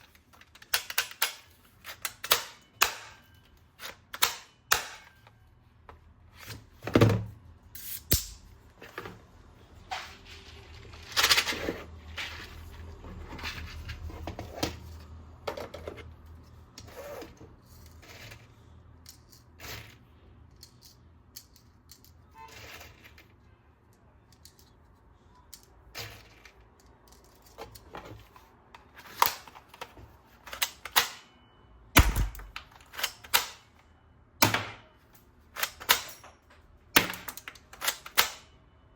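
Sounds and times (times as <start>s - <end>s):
plastic parts clicking and rattling: 0.0s - 7.3s, 8.1s - 31.3s, 32.0s - 33.8s, 34.4s - 38.6s.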